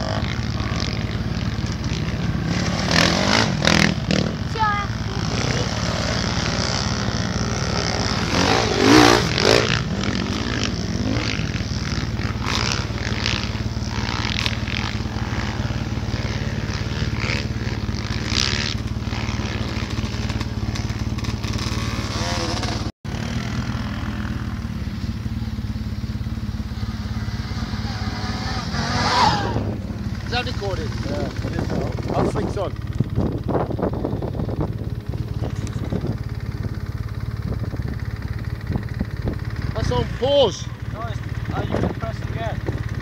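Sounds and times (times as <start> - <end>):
quad bike engine idling: 0.0 - 43.0.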